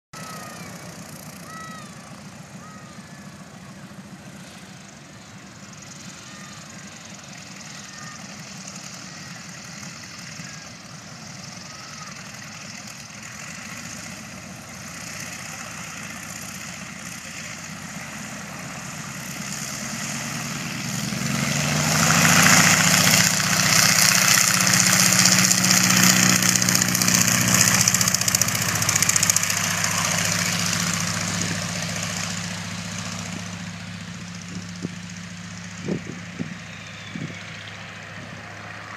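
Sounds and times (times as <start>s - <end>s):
propeller plane engine droning: 0.2s - 38.9s.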